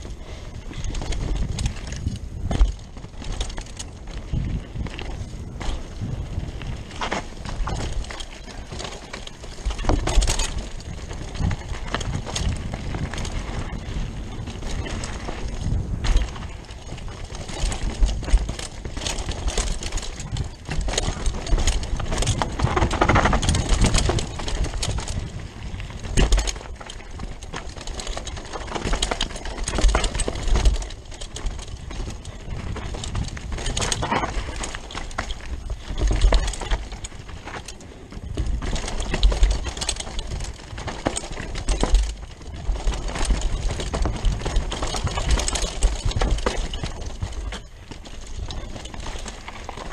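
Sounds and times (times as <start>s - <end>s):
bike rattling: 0.0s - 49.9s
tyres crunching over dirt: 0.0s - 49.9s
bike thumping over bumps: 0.2s - 49.9s.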